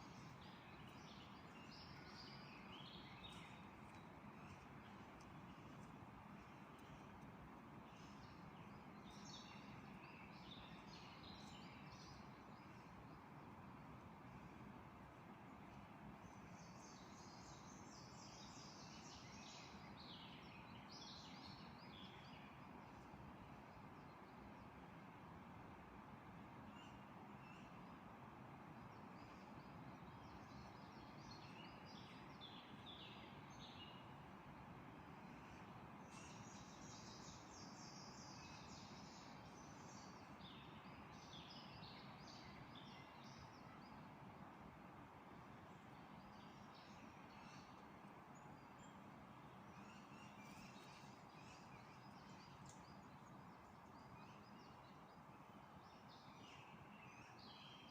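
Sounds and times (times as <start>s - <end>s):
songbird chirping: 0.0s - 25.1s, 28.7s - 57.9s
steady background hiss: 0.0s - 57.9s.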